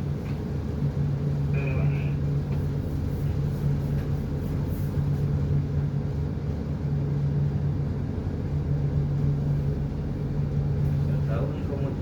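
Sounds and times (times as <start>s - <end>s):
boat diesel engine drone: 0.0s - 12.0s.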